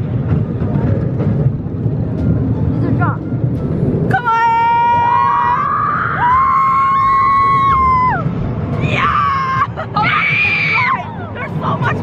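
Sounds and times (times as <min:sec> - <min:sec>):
low rush of noise: 0:00.0 - 0:12.0.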